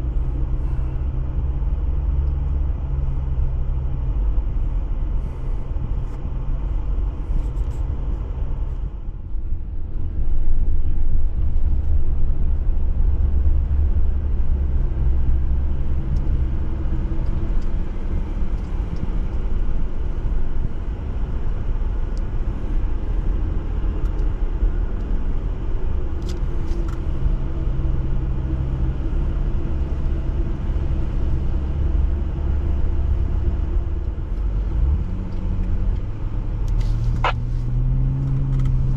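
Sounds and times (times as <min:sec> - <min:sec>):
car engine low rumble: 0:00.0 - 0:38.9.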